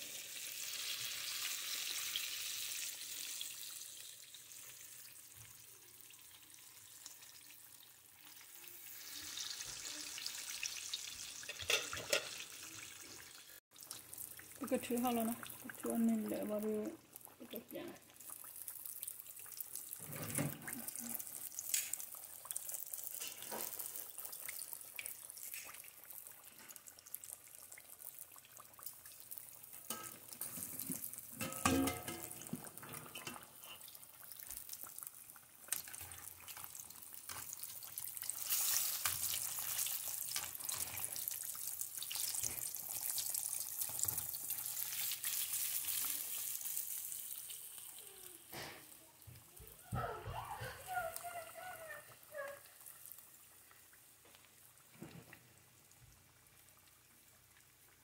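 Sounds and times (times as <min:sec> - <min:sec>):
fish deep-frying in oil: 0:00.0 - 0:58.0.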